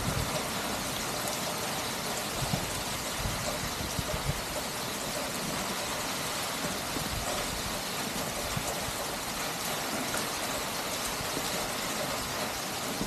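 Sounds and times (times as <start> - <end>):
heavy rain on flooded ground: 0.0 - 13.0.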